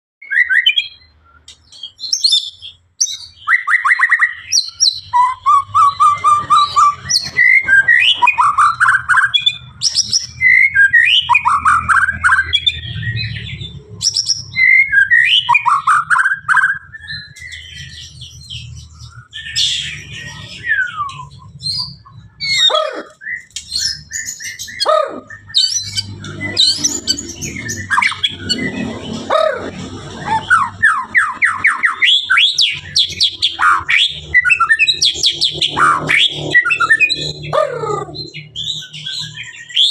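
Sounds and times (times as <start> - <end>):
songbird singing trills and whistles: 0.2 - 39.9.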